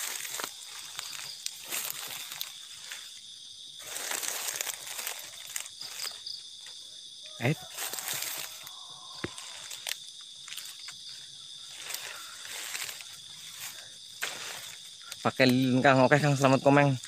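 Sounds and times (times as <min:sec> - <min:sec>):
footsteps rustling through dry leaves: 0:00.0 - 0:06.4, 0:07.6 - 0:15.9
night insects chirping: 0:00.0 - 0:17.0.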